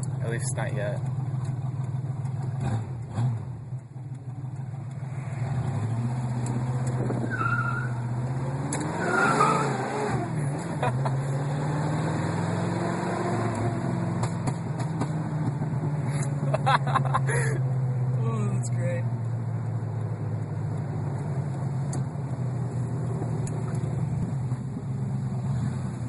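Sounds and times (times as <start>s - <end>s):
loud open-exhaust engine revving: 2.0s - 3.7s, 4.9s - 26.0s.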